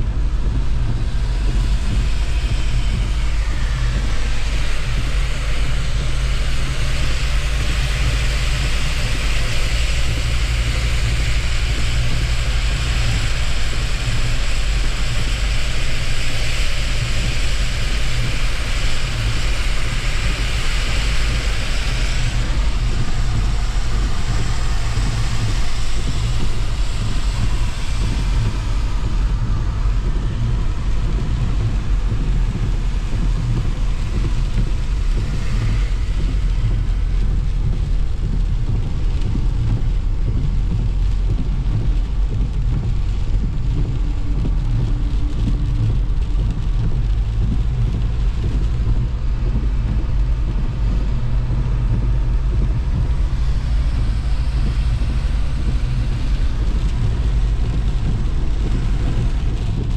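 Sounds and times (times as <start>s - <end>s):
engine and tyres rumbling: 0.0s - 59.9s
spray hissing off wet road: 0.0s - 59.9s.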